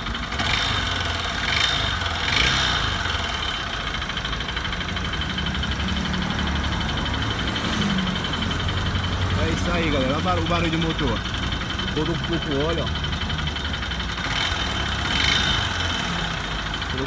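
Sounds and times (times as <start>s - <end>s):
motorcycle engine idling: 0.0s - 17.0s
rapid mechanical knocking: 0.0s - 17.0s.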